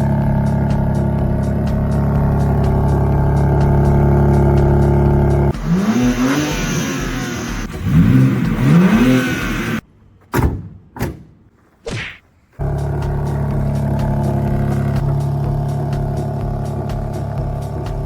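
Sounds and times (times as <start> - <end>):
car engine revving: 0.0 - 9.8, 12.6 - 18.0
sharp exhaust bangs: 0.0 - 9.8, 12.6 - 18.0.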